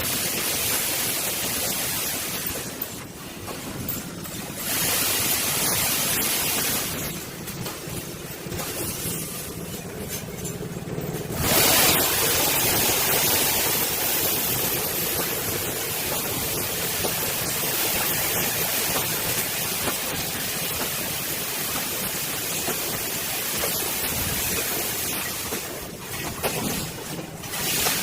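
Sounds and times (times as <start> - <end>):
welding machine hissing: 0.0 - 28.0.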